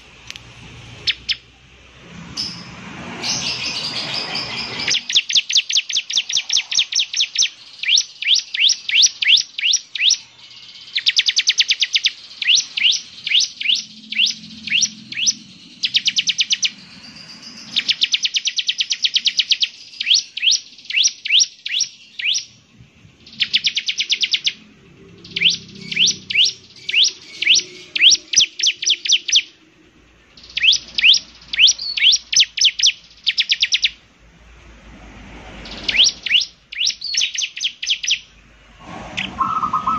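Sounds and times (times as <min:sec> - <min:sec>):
bird chirping song: 0:00.8 - 0:01.6, 0:02.3 - 0:34.1, 0:35.3 - 0:39.9.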